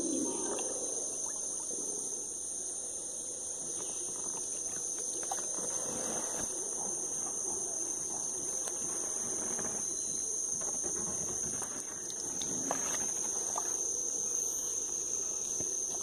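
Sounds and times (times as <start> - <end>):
high-pitched insect drones: 0.0 - 16.0.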